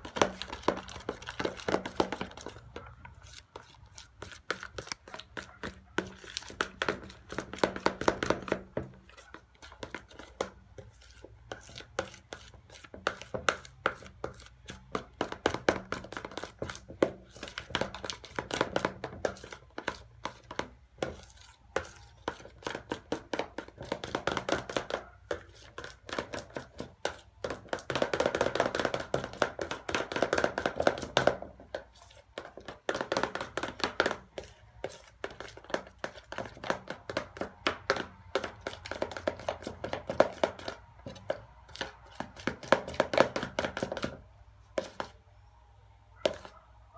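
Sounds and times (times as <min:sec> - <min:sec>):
spoon stirring sticky slime: 0:00.0 - 0:27.9, 0:28.8 - 0:45.2, 0:46.3 - 0:46.6.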